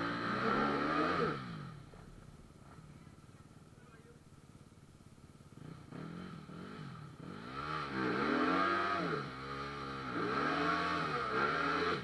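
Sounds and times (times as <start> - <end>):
motorcycle engine revving: 0.0 - 4.3, 5.2 - 12.0.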